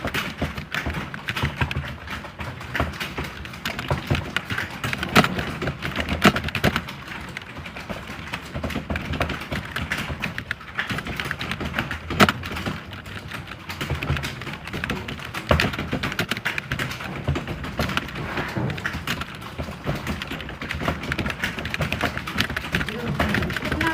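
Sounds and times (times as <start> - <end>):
keyboard typing: 0.0 - 23.9
louder key strokes: 0.0 - 23.9.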